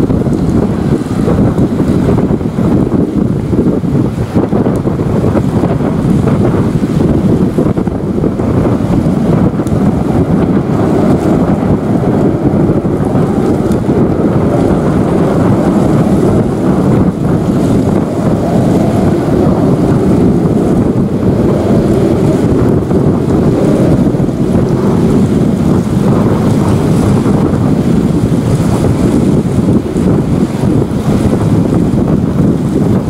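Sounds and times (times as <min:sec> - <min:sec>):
jet engine roar: 0:00.0 - 0:33.0.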